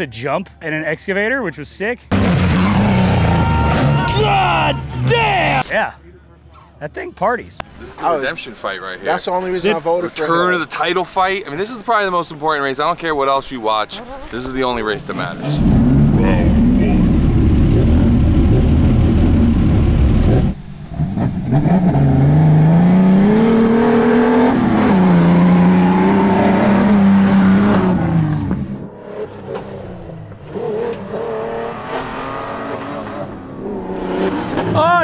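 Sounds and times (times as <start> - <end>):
off-road truck engines at full throttle: 0.0 - 35.0.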